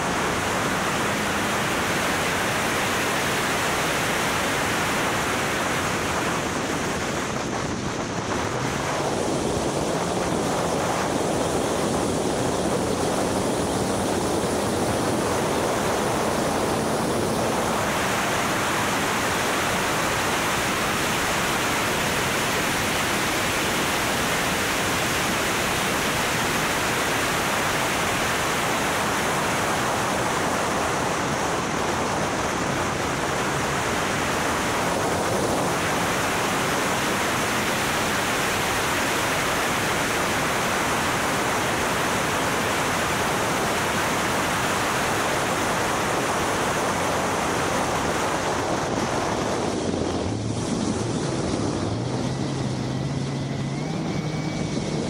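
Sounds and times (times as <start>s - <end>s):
road noise: 0.0s - 55.0s
wind rush: 0.0s - 55.0s.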